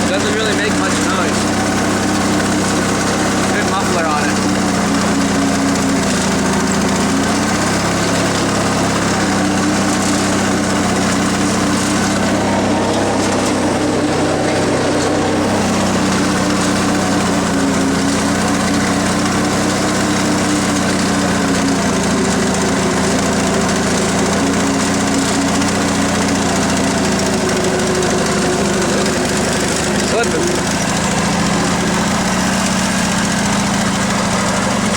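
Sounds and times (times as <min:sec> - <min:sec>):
riding tractor engine running: 0:00.0 - 0:34.9.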